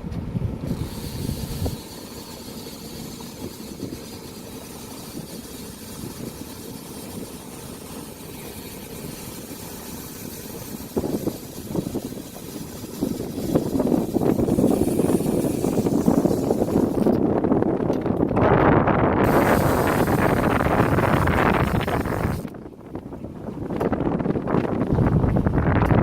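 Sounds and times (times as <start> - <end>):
boat motor idling: 0.0 - 26.0
wind on microphone: 0.0 - 26.0.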